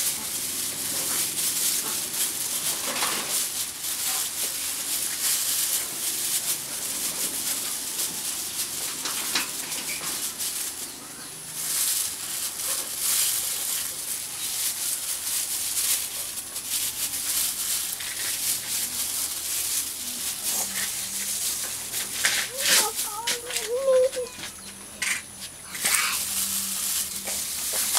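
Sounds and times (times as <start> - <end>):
steady high hiss: 0.0 - 27.9.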